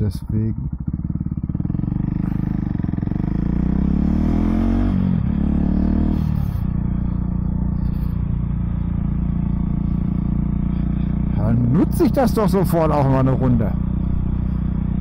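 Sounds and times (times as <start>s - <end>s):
motorcycle engine shifting gears: 0.0s - 15.0s.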